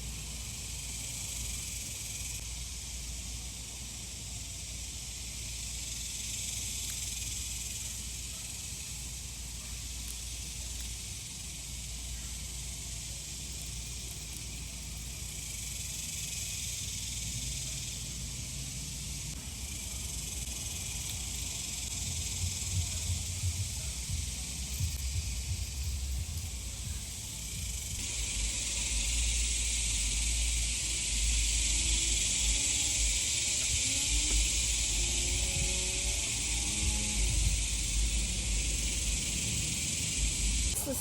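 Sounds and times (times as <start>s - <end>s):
cicadas buzzing: 0.0s - 41.0s.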